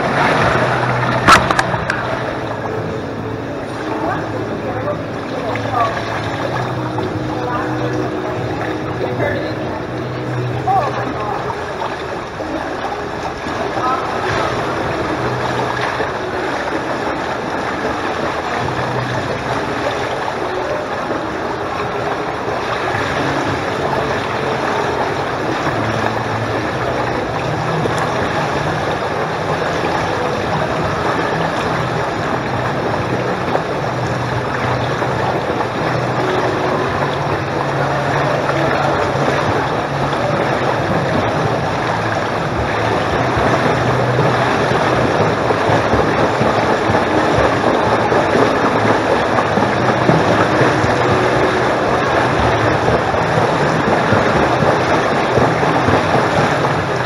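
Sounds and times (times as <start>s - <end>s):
low hum: 0.0s - 57.0s
swimmer splashing: 0.0s - 57.0s
water sloshing and lapping: 0.0s - 57.0s.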